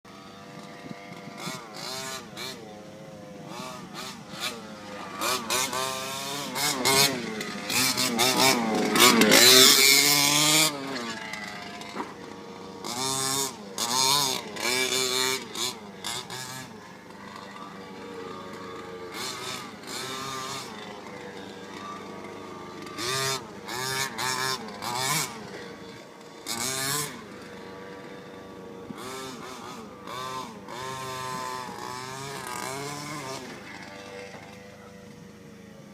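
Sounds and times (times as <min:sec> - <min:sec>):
toy truck motor revving: 0:00.1 - 0:35.9.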